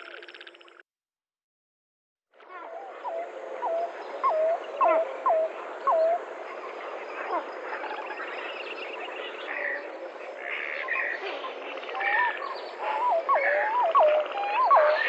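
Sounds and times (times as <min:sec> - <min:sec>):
chorus of forest calls: 0:02.4 - 0:15.0.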